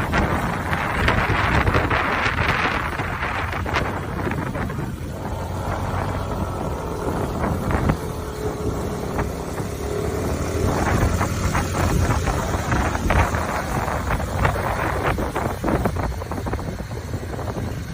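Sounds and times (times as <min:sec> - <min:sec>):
vehicle engine rumble: 0:00.0 - 0:17.9
wind buffeting microphone: 0:00.0 - 0:17.9.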